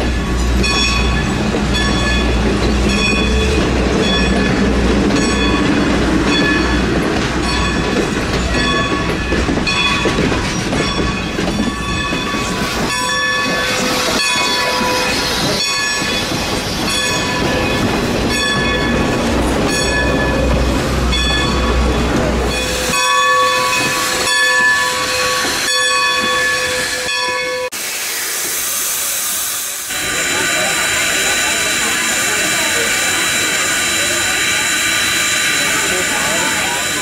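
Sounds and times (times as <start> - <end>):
steam locomotive bell ringing: 0.0 - 27.8, 29.9 - 37.0
train rolling past rumble: 0.0 - 37.0.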